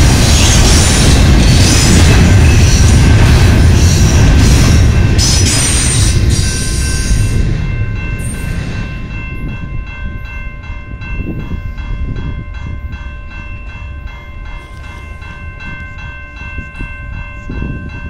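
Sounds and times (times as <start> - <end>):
crossing warning bell ringing: 0.0 - 18.0
low train rumble: 0.0 - 18.0.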